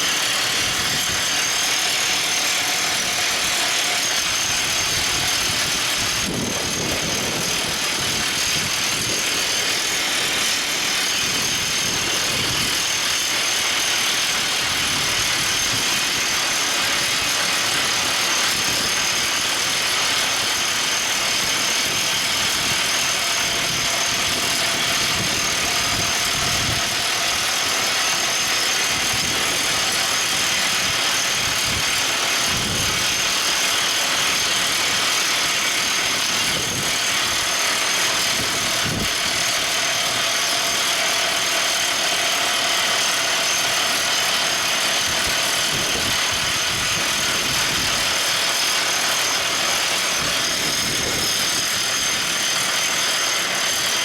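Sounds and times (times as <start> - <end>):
drill rig running with whine: 0.0 - 54.0.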